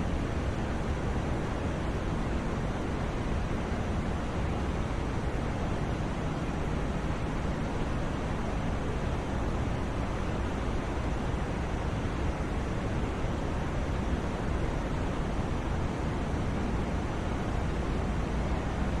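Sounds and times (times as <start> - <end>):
steady white noise hiss: 0.0 - 19.0.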